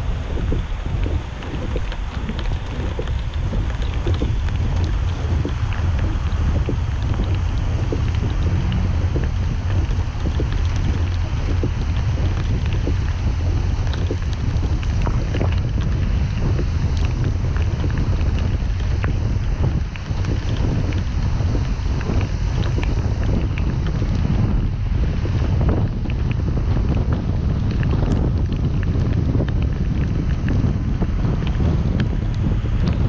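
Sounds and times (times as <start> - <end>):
car tyre and wind rumble: 0.0 - 33.0.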